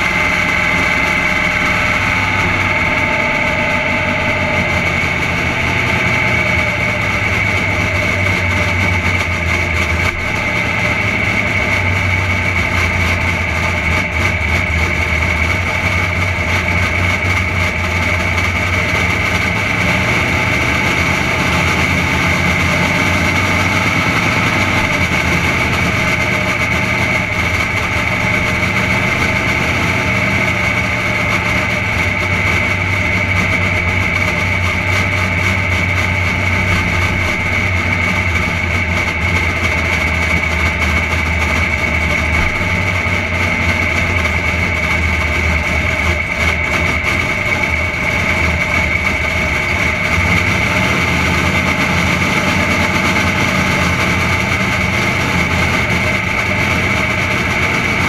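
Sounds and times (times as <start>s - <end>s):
car engine idling: 0.0s - 58.0s
high whine: 0.0s - 58.0s.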